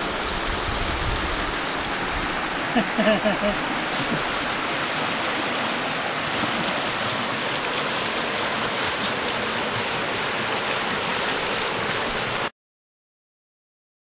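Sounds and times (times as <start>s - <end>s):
creek flowing over stones: 0.0s - 12.5s.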